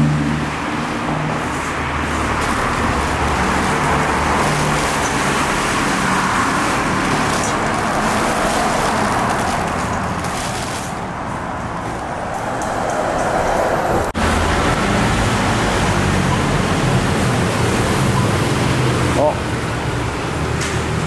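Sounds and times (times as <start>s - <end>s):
road traffic noise: 0.0s - 21.0s
vehicle engine hum: 0.0s - 21.0s.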